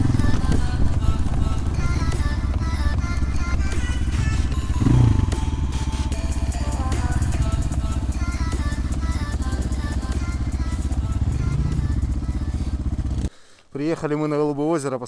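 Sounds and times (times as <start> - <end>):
background music: 0.0 - 13.2
motorcycle engine running: 0.0 - 13.3.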